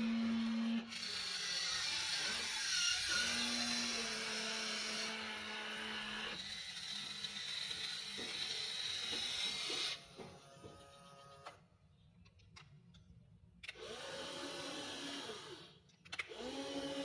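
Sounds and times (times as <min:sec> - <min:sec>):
toy excavator motors whirring: 0:00.0 - 0:11.6, 0:13.6 - 0:17.0.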